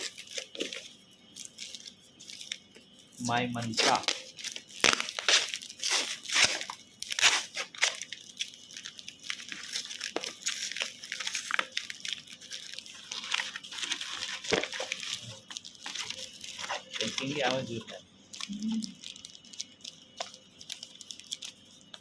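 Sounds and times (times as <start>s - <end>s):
plastic crinkling: 0.0s - 22.0s
plastic packaging tearing: 0.0s - 22.0s.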